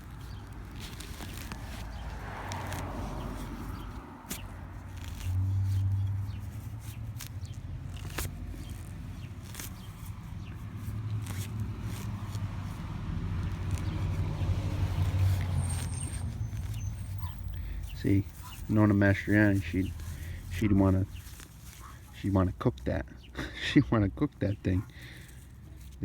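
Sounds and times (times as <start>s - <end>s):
passing vehicle hum: 0.0s - 23.3s.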